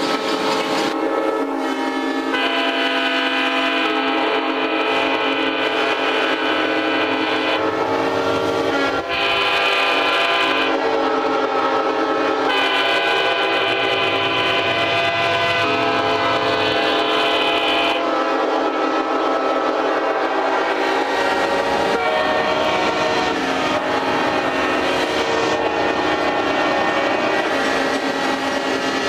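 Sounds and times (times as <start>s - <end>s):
train horns blasting: 0.0s - 29.0s.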